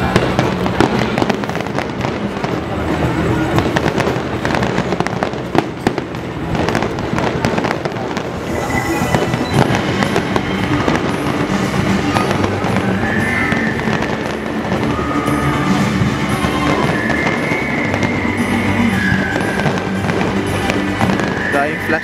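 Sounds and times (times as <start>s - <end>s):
fireworks bursting and crackling: 0.0s - 22.0s
music playing: 0.0s - 22.0s.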